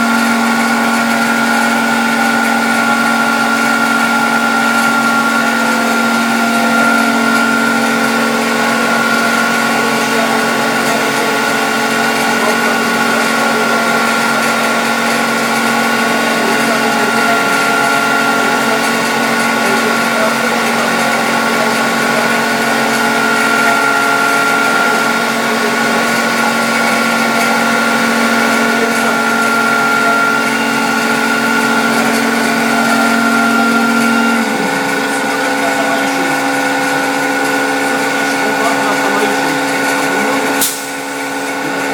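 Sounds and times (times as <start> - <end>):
machine working noise: 0.0 - 41.9
router spindle whining: 0.0 - 41.9.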